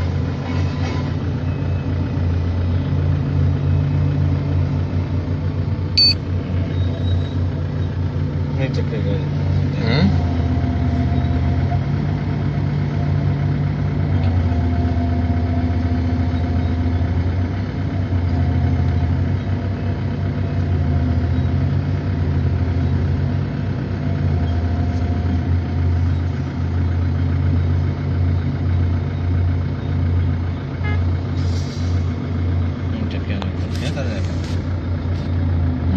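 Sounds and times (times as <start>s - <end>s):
diesel machinery engine drone: 0.0s - 35.9s.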